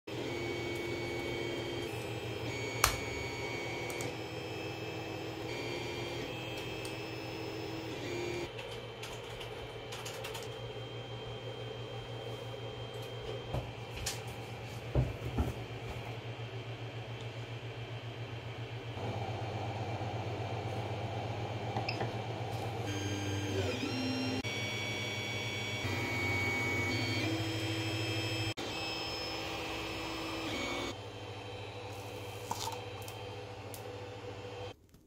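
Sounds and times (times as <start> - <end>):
stepper motors whining: 0.1 - 13.8, 18.9 - 34.8.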